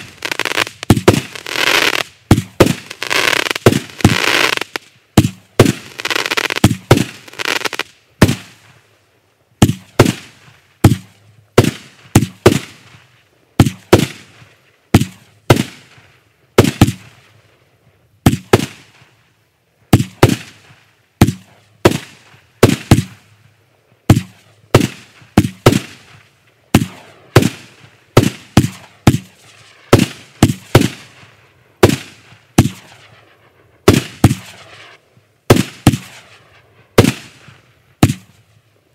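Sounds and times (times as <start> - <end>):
firework bangs: 0.0 - 8.8, 9.6 - 13.0, 13.6 - 17.2, 18.2 - 19.1, 19.9 - 23.3, 24.1 - 38.5
noisy haze: 0.0 - 38.9.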